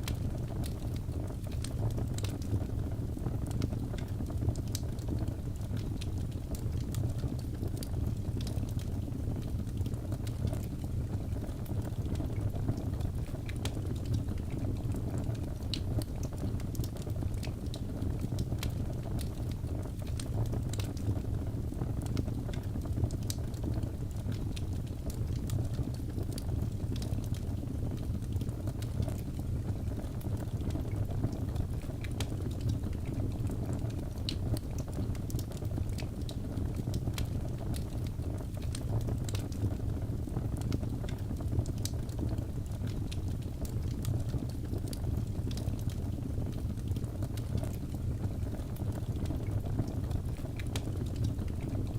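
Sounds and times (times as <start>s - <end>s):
fire crackles and pops: 0.0s - 51.9s
fire flames rumbling: 0.0s - 51.9s.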